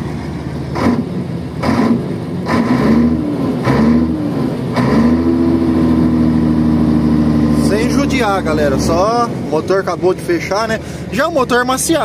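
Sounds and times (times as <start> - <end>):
truck diesel engine revving: 0.0 - 12.0.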